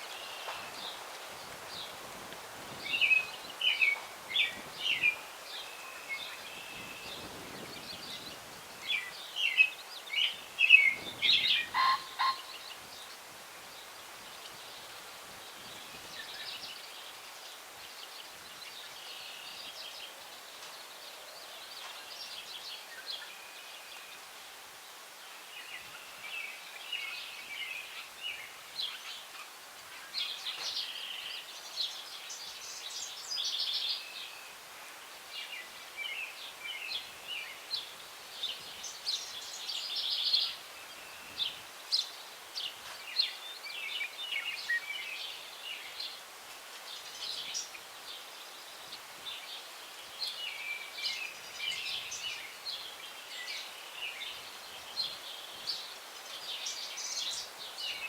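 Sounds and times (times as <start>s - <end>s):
breeze through tree branches: 0.0s - 58.0s
songbirds chirping and trilling: 0.0s - 58.0s.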